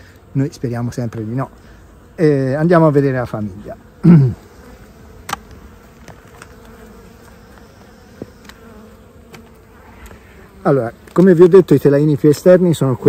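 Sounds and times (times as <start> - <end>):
bees humming: 0.0 - 13.0.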